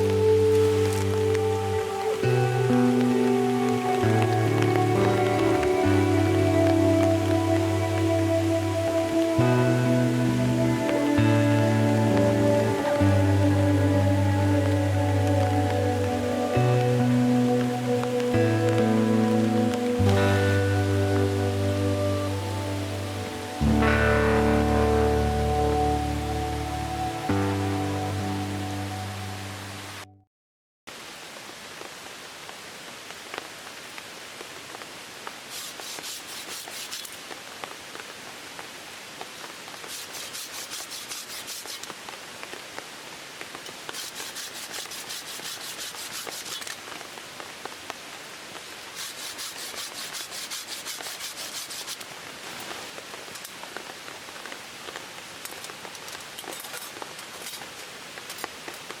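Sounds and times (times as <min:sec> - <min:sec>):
steady rain falling: 0:00.0 - 0:30.1, 0:30.9 - 0:59.0.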